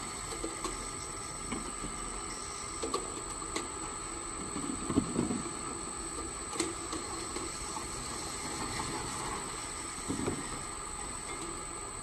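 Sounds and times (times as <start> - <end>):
machine hum and high whine: 0.0 - 12.0.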